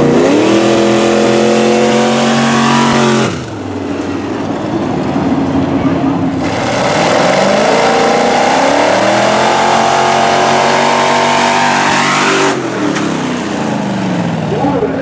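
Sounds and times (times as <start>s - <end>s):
truck engines accelerating hard: 0.0s - 15.0s.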